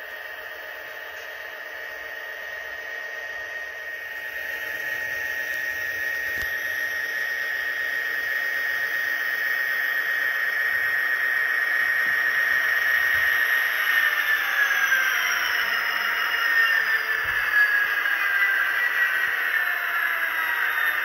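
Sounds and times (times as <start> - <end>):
model locomotive diesel sound whine: 0.0 - 21.0
model train rolling on track: 0.0 - 21.0.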